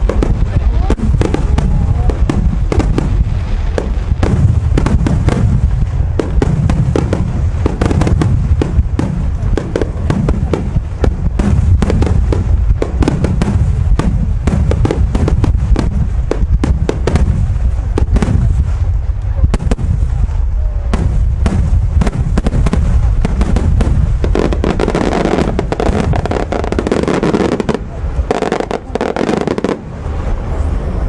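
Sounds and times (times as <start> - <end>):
low rumble: 0.0 - 29.0
fireworks booming and cracking: 0.0 - 31.0.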